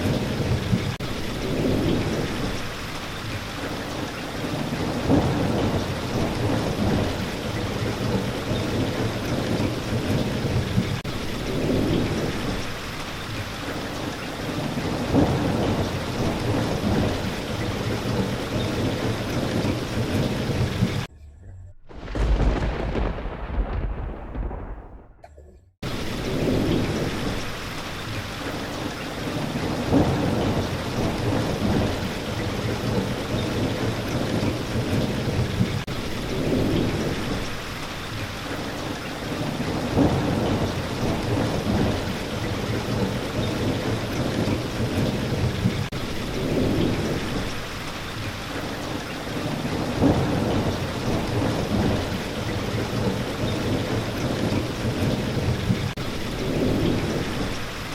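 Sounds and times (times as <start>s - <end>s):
steady rain: 0.0s - 21.1s, 21.9s - 25.2s, 25.8s - 57.9s
low thunder rumbles: 0.0s - 57.9s.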